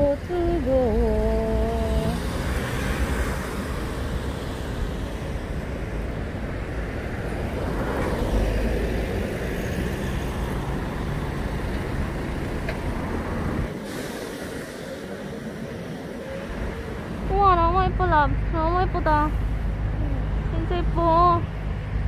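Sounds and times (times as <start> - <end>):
road vehicle engine rumbling: 0.0 - 22.0.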